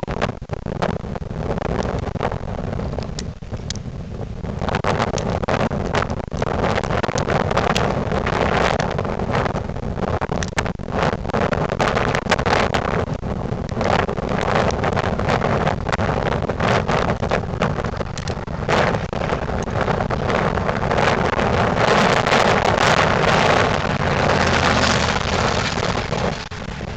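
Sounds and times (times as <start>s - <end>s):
wind noise on microphone: 0.0s - 26.9s.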